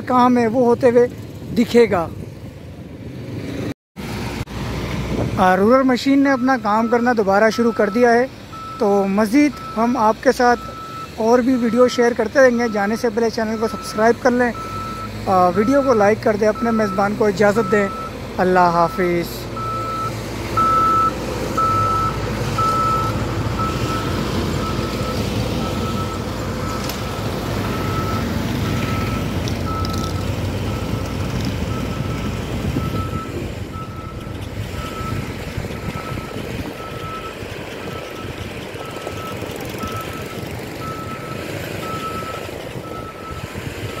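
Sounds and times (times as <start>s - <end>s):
diesel engine under load: 0.0s - 44.0s
reversing alarm beeping: 6.3s - 44.0s.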